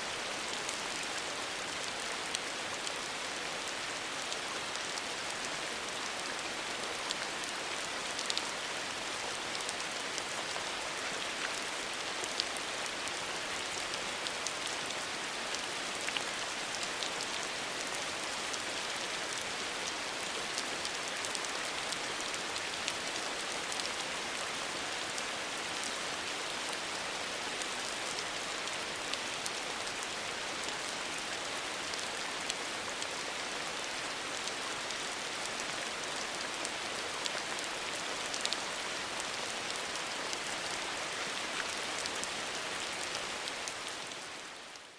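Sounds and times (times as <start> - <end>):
rainfall hiss: 0.0 - 44.9.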